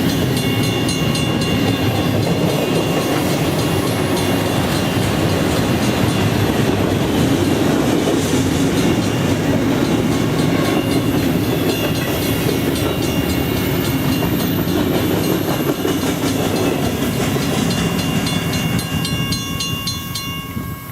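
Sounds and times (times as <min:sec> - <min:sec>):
wheels clacking over rail joints: 0:00.0 - 0:19.4
train cars rumbling past: 0:00.0 - 0:20.9.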